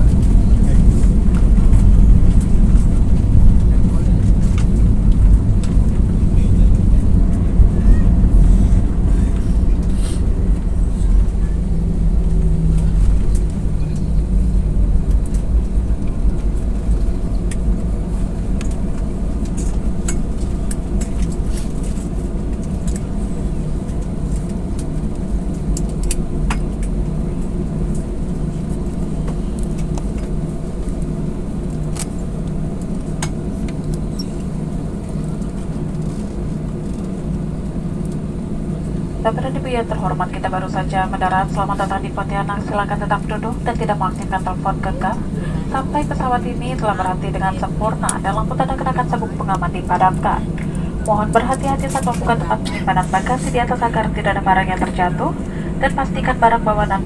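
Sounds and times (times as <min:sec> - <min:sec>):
airliner engines and runway rumble: 0:00.0 - 0:57.0.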